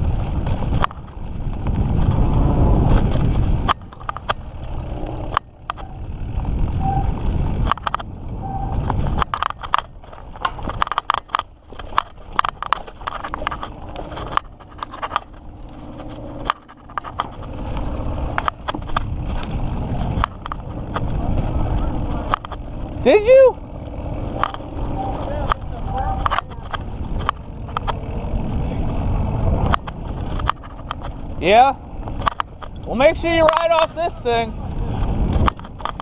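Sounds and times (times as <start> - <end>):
bike rattling over bumps: 0.0 - 36.0
bike tyres on dirt trail: 0.0 - 36.0.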